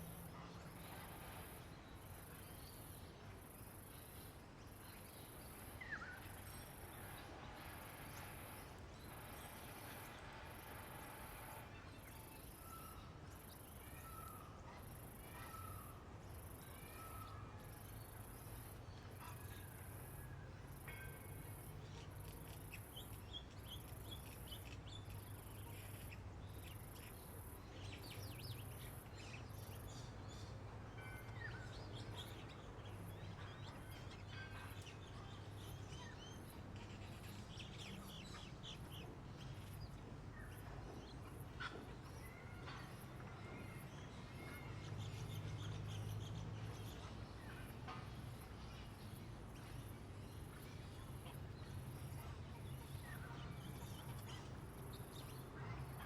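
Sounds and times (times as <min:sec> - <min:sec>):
low steady background hum: 0:00.0 - 0:56.0
songbirds chirping: 0:00.0 - 0:56.0.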